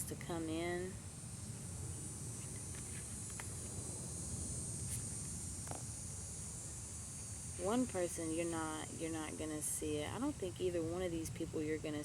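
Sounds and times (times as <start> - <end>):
high-pitched hiss: 0.0 - 11.9.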